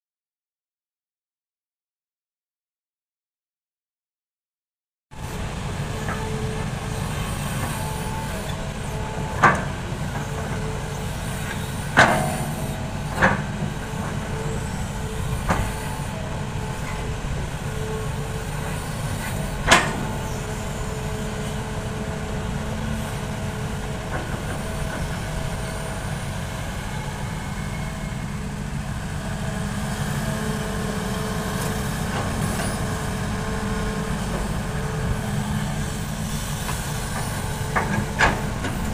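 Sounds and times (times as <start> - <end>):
excavator diesel engine running: 5.2 - 38.9.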